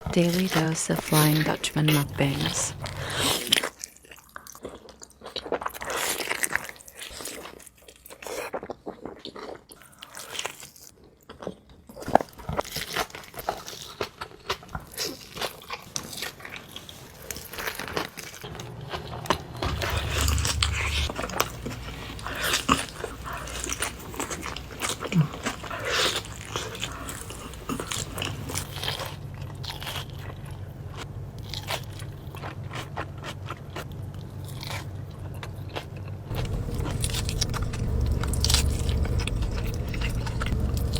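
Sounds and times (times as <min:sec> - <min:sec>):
wet biting and chewing: 0:02.8 - 0:40.9.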